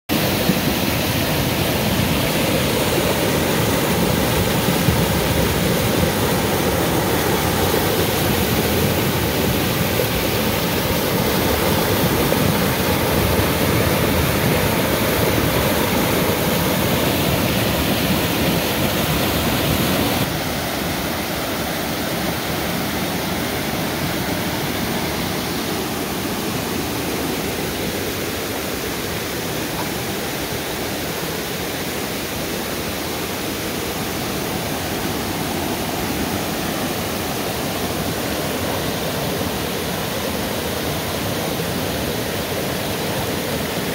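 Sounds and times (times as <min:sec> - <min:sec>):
river rushing over rocks: 0:00.1 - 0:43.9.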